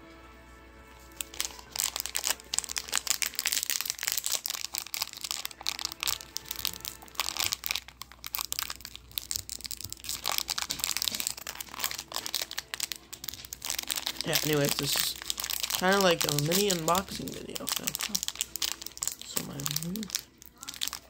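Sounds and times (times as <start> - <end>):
chewing: 1.0 - 21.0
plastic wrapper crinkling: 1.0 - 21.0.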